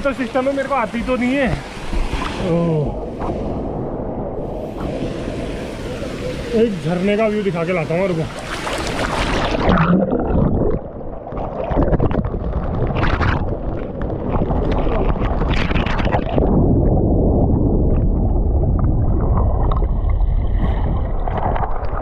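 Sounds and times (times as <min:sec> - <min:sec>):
muffled churning water: 0:00.0 - 0:22.0.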